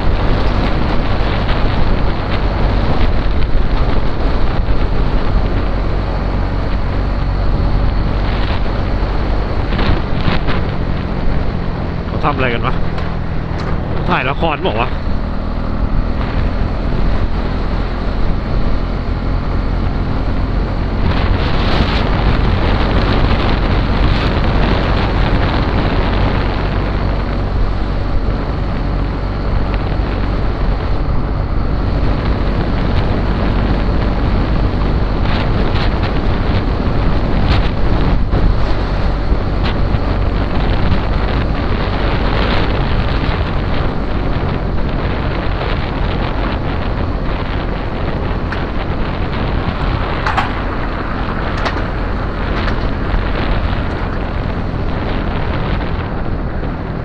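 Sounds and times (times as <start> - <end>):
motorcycle engine hum: 0.0 - 57.0
wind buffeting microphone: 0.0 - 57.0.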